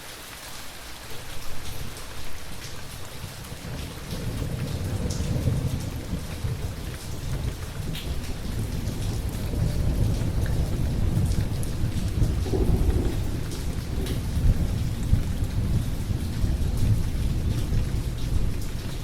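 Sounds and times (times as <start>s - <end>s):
steady rain: 0.0s - 19.0s
deep rumble of thunder: 3.1s - 19.0s.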